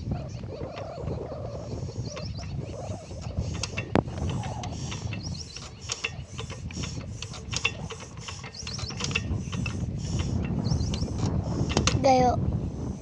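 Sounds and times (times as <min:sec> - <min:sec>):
engine flywheel metallic clicks: 0:00.0 - 0:12.2.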